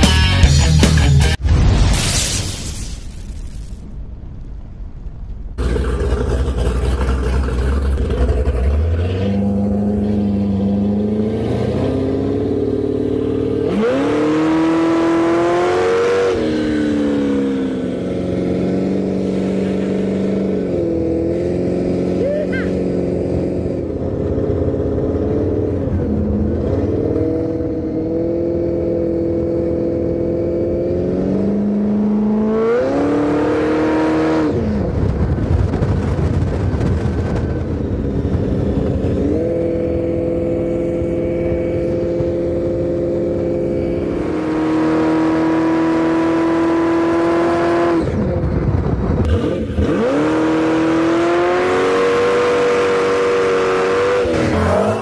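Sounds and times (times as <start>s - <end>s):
engine revving: 5.6s - 35.2s, 37.4s - 55.0s.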